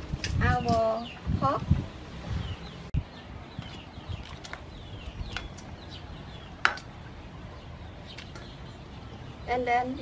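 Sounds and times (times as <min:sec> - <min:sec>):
small birds chirping: 0:00.1 - 0:10.0.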